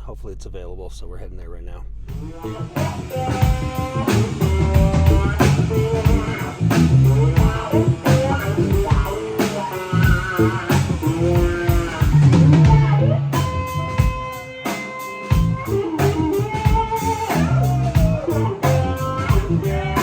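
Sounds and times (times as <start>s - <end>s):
steady drum beat: 0.0s - 20.0s
guitar: 2.2s - 20.0s.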